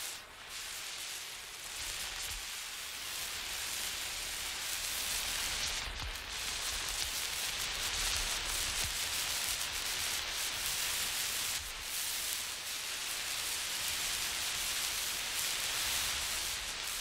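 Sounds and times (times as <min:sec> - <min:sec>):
road flare hissing: 0:00.0 - 0:17.0.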